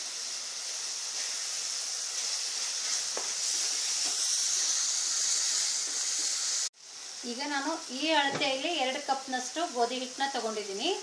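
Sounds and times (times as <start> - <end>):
masala sizzling in pan: 0.0 - 11.0.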